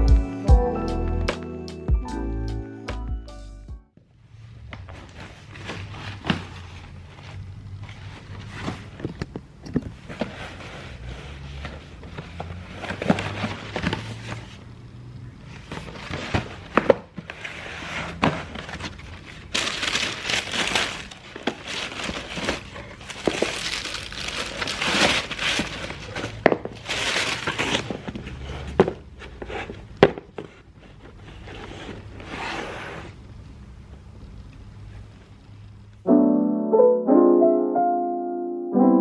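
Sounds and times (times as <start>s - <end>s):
rustling and crinkling: 4.3s - 36.0s.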